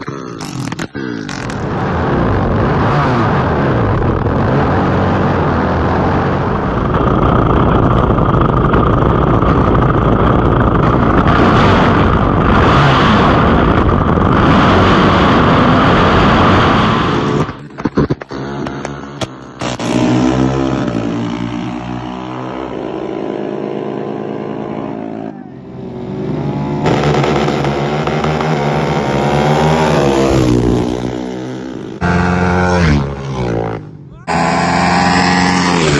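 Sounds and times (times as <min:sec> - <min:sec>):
drag race engines at full throttle: 0:00.0 - 0:35.9
single engine revving: 0:00.0 - 0:35.9.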